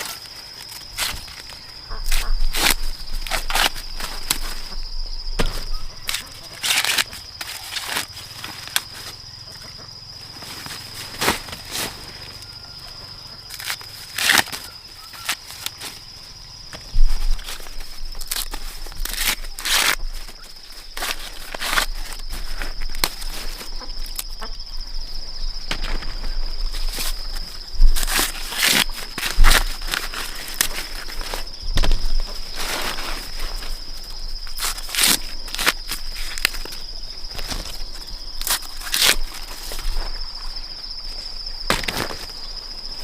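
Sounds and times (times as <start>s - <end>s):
dry corn plants rustling: 0.0s - 43.0s.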